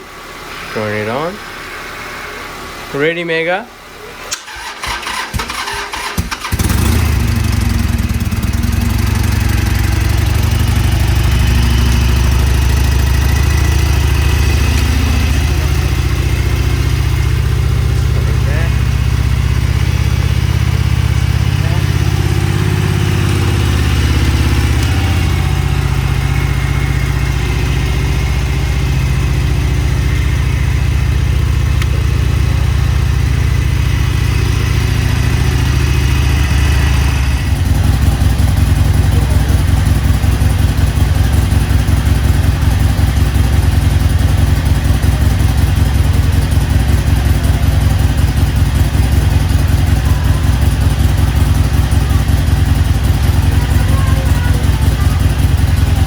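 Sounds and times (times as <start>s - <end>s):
motorcycle engine idling: 3.8s - 56.0s.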